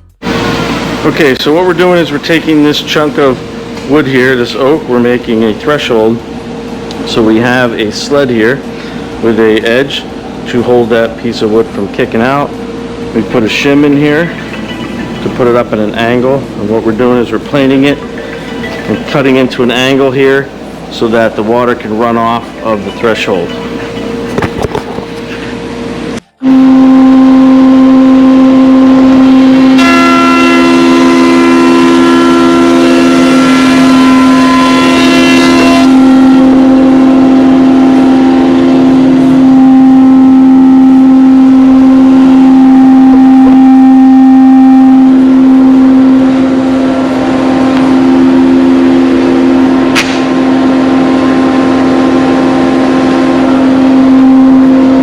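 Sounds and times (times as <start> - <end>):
thickness planer motor whine: 0.2 - 55.0.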